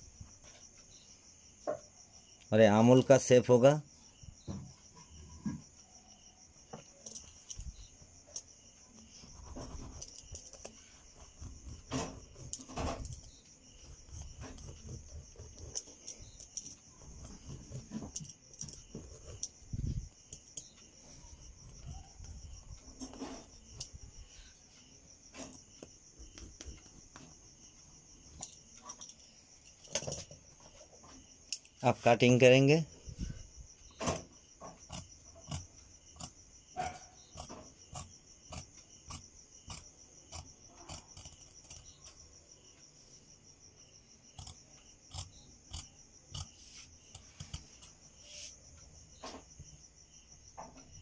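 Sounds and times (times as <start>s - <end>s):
high insect trill: 0.0s - 51.0s.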